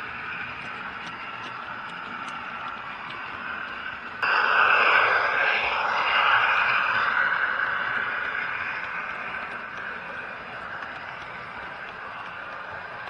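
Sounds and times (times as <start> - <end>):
model train diesel engine sound: 0.0 - 13.0
model train wheels on track: 0.0 - 13.0.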